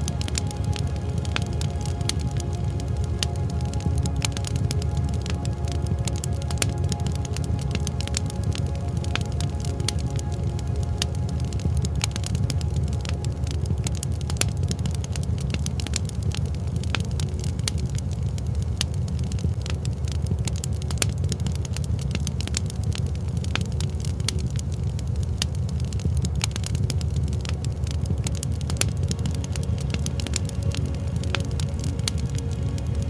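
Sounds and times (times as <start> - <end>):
low rumble: 0.0 - 33.0
wood fire crackling: 0.0 - 33.0.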